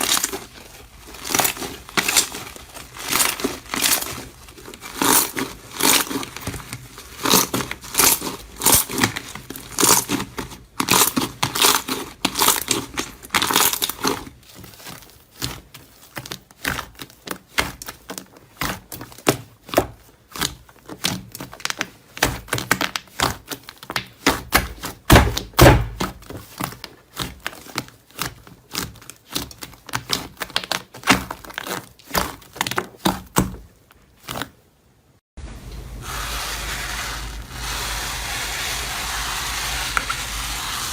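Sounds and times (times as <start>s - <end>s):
crunchy material being crushed: 0.0s - 34.6s.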